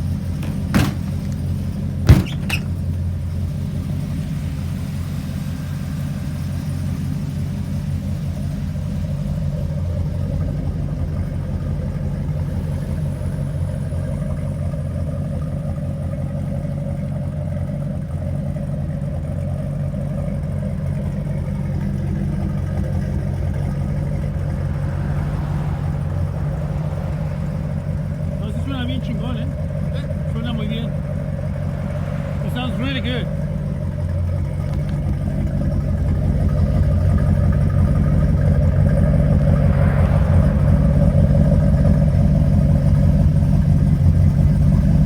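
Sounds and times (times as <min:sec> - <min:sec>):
engine idling deep rumble: 0:00.0 - 0:45.0.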